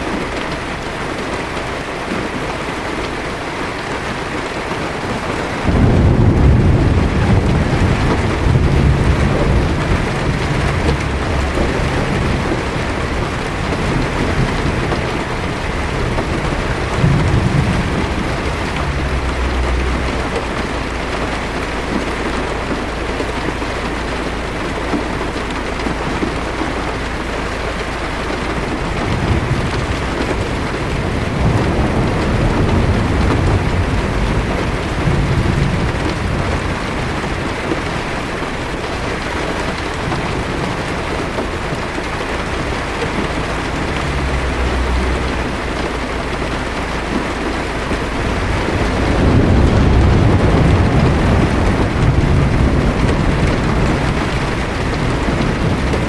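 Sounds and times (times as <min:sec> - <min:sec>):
distant thunder rumbling: 0:00.0 - 0:56.0
rain hitting a windshield: 0:00.0 - 0:56.0.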